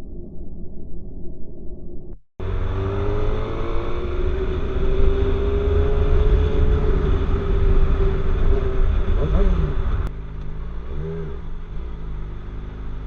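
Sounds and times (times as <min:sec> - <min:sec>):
motorcycle engine running: 0:02.4 - 0:13.0.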